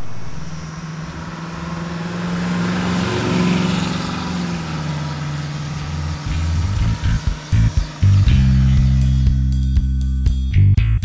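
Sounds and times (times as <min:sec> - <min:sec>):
car engine driving past: 0:00.0 - 0:09.6.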